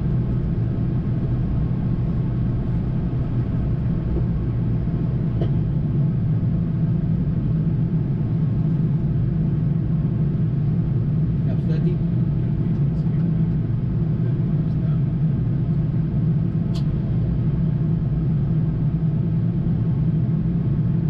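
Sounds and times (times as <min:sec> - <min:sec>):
aircraft engines and airflow rumble: 0:00.0 - 0:21.0
faint hum: 0:00.0 - 0:21.0.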